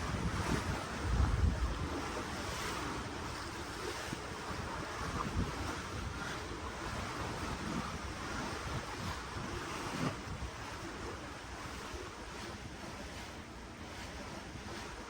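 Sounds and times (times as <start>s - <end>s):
ocean waves washing: 0.0s - 15.0s
wind rumbling on microphone: 0.0s - 15.0s.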